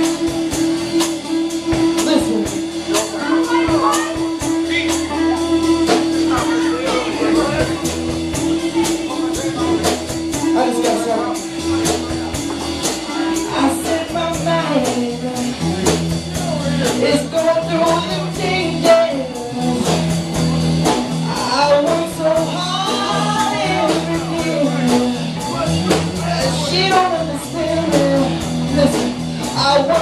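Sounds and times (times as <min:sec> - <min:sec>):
bass line: 0:00.0 - 0:30.0
drums: 0:00.0 - 0:30.0
electric guitar: 0:00.0 - 0:30.0
person singing: 0:00.0 - 0:30.0.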